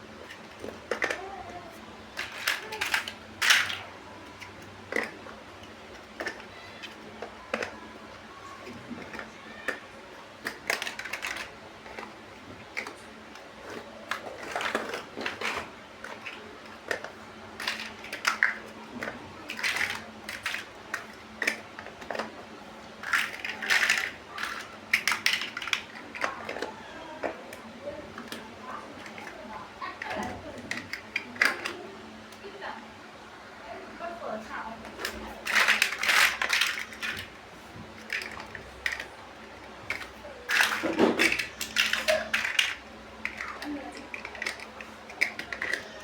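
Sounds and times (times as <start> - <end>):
plastic bricks clicking together: 0.2 - 7.9, 8.6 - 22.4, 23.0 - 29.4, 30.0 - 31.8, 34.8 - 37.3, 38.0 - 46.0.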